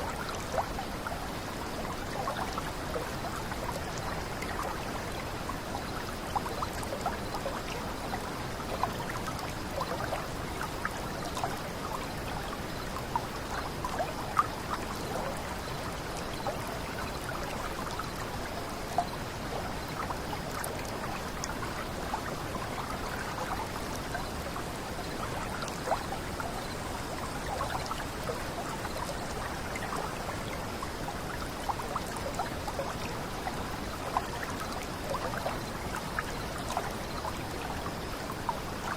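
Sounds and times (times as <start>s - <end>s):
water splashes and drips: 0.0s - 38.9s.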